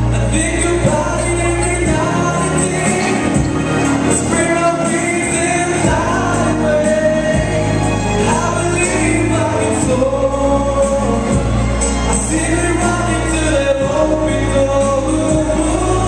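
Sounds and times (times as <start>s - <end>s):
instrumental music with beat: 0.0s - 16.0s
man singing into microphone: 0.0s - 16.0s.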